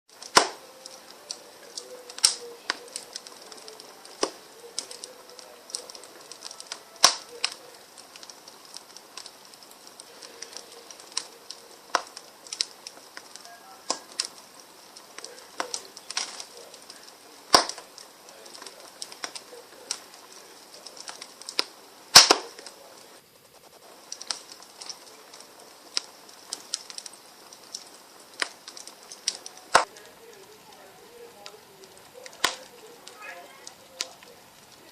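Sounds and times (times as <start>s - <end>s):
fire crackling: 0.0s - 34.9s
soft fire hiss: 0.1s - 34.9s.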